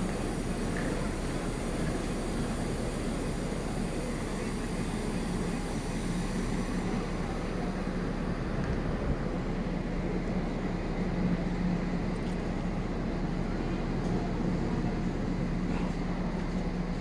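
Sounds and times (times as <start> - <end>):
trains humming and rumbling: 0.0 - 17.0.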